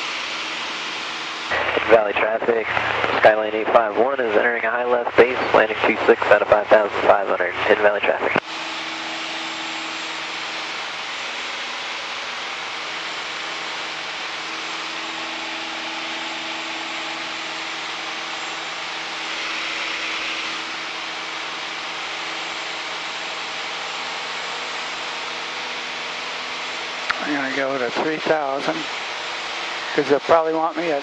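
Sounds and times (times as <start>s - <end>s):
aircraft engine droning in cockpit: 0.0s - 31.0s.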